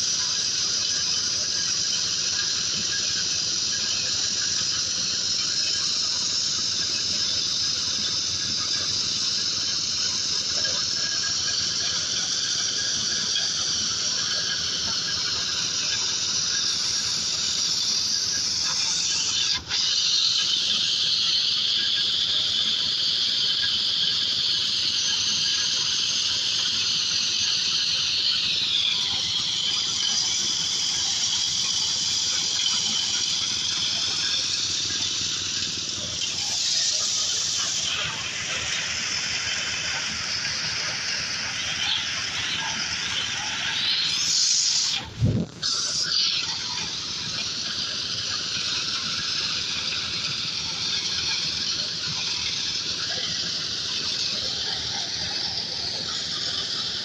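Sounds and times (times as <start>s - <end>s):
corn sheller machine whining: 0.0s - 57.0s.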